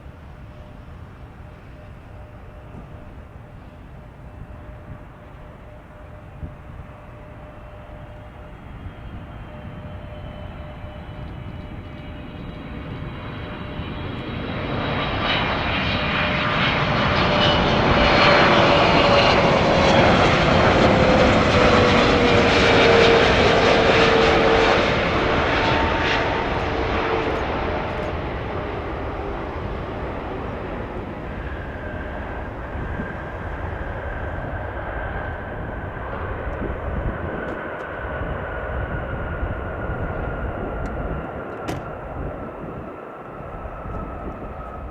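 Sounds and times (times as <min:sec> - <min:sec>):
jet airliner passing: 0:00.0 - 0:44.9.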